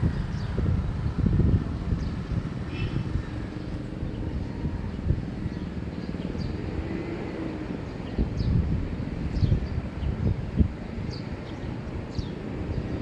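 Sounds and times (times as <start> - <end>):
distant engine hum: 0.0 - 13.0
wind rumbling on microphone: 0.0 - 13.0.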